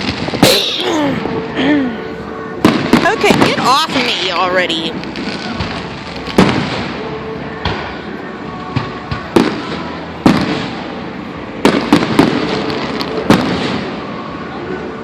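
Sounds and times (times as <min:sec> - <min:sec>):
fireworks bangs: 0:00.0 - 0:01.4, 0:02.6 - 0:14.4
fireworks crackle: 0:00.0 - 0:01.5, 0:02.6 - 0:14.5.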